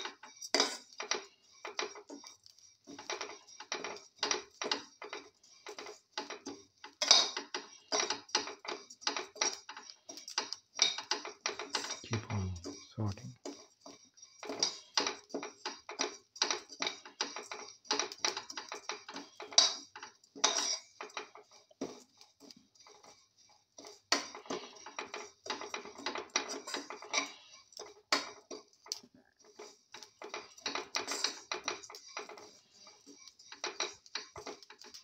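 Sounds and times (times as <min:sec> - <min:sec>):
metal spatula scraping steel pan: 0:00.0 - 0:12.0, 0:12.6 - 0:35.0.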